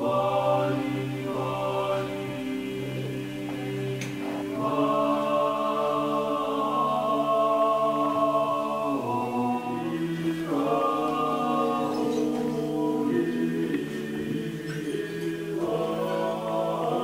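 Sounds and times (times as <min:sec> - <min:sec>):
slow choral music: 0:00.0 - 0:17.0.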